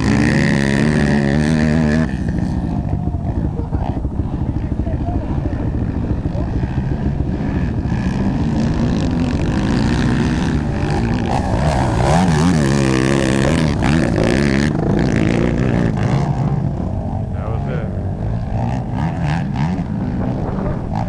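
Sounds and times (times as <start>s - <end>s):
quad engines revving: 0.0s - 21.0s.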